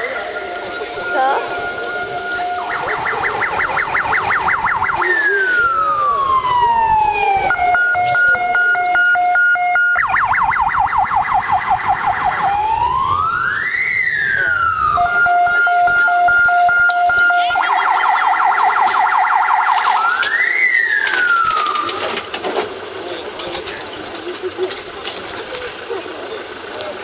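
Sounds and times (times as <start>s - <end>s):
electronic siren cycling: 0.0s - 22.3s.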